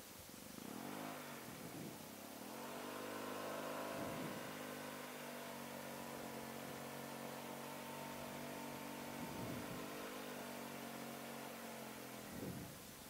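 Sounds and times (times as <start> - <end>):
soft hiss: 0.0 - 13.0
scooter engine running: 0.6 - 12.8.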